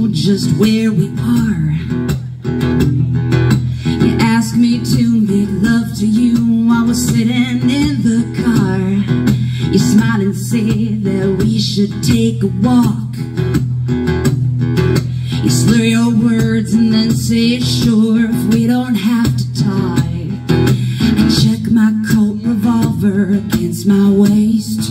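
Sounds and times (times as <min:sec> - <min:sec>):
woman singing: 0:00.0 - 0:02.4, 0:03.7 - 0:13.6, 0:15.0 - 0:24.9
acoustic guitar strumming: 0:00.0 - 0:24.9.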